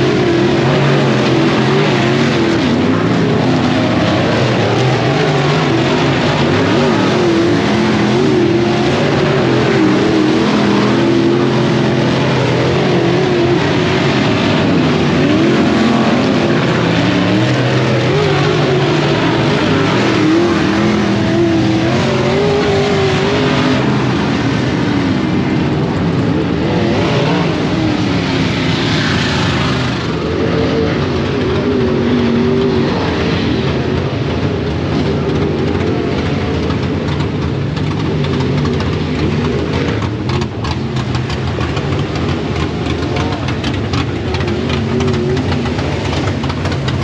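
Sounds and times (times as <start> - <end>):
race car engines revving: 0.0 - 47.0.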